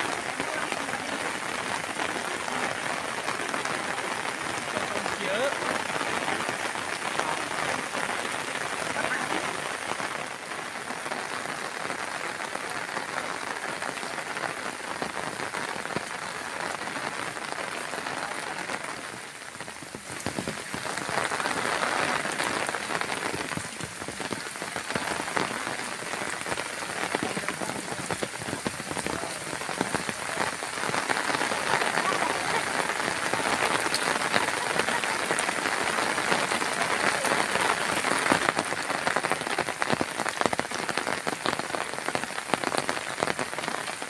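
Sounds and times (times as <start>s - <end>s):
heavy rain on trees and stone: 0.0s - 44.0s.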